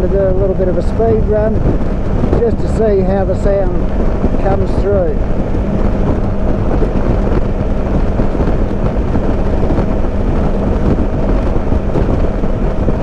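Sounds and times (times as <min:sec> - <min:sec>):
motorcycle engine drone: 0:00.0 - 0:13.0
wind buffeting microphone: 0:00.0 - 0:13.0.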